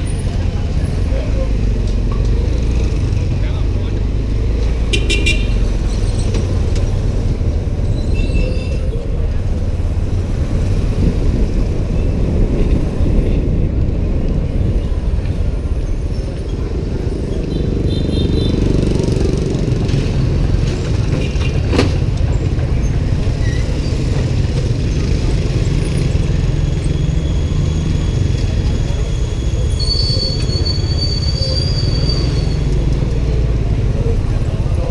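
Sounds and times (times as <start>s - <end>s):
motorbike road and wind noise: 0.0s - 34.9s.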